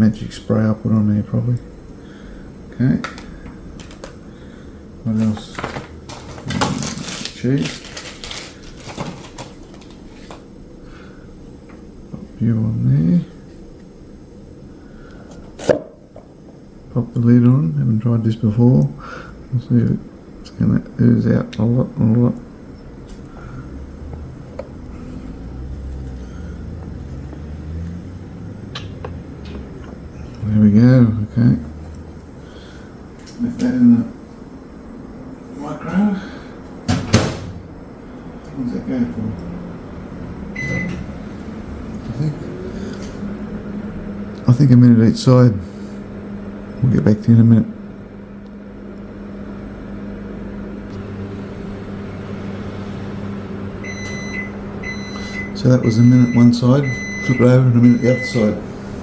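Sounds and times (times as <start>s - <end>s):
deeper hum: 0.0s - 35.5s, 36.4s - 59.0s
microwave oven humming: 0.0s - 59.0s.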